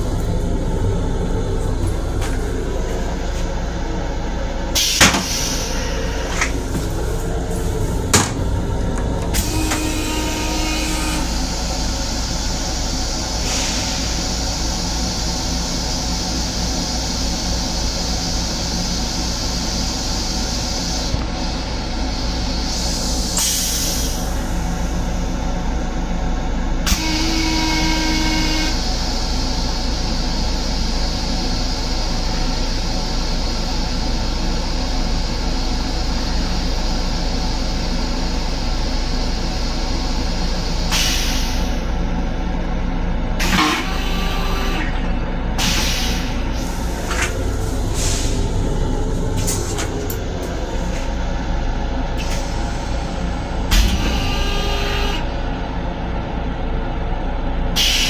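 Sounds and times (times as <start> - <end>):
train rumble and hiss: 0.0 - 58.0.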